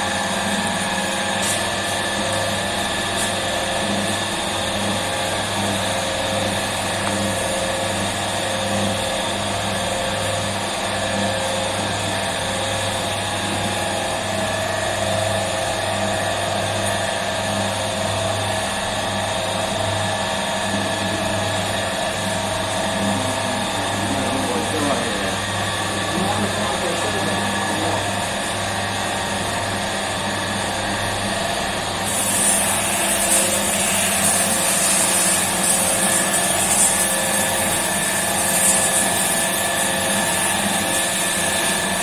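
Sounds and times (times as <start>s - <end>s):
bakery machine hum: 0.0s - 42.0s
high machine whines: 0.0s - 42.0s.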